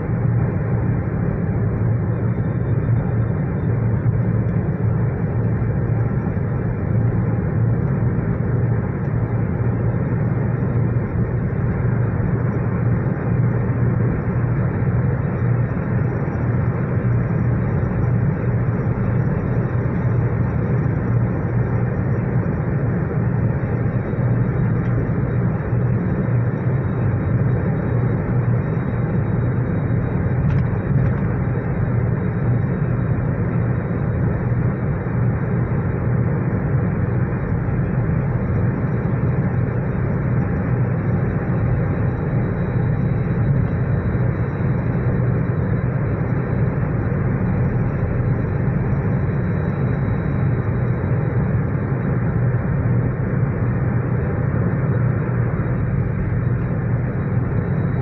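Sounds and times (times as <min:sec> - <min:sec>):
car cabin road and wind drone: 0:00.0 - 0:58.0.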